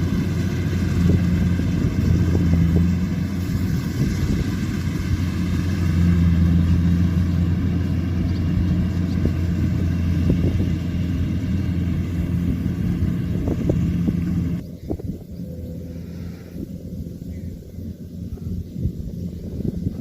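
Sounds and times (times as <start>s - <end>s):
combine harvester engine hum: 0.0s - 20.0s
machinery noise: 0.0s - 20.0s.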